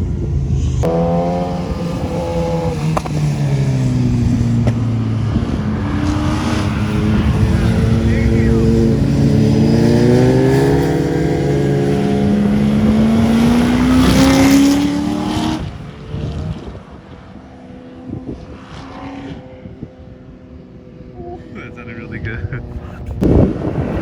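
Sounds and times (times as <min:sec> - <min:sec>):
vehicle engine accelerating hard: 0:00.0 - 0:24.0.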